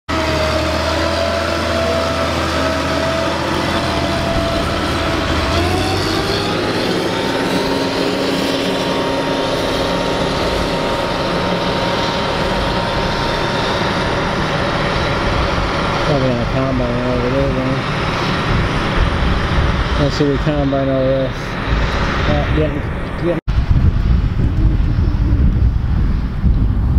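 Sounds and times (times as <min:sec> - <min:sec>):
machinery whining tone: 0:00.1 - 0:26.8
combine harvester diesel drone: 0:00.1 - 0:26.9.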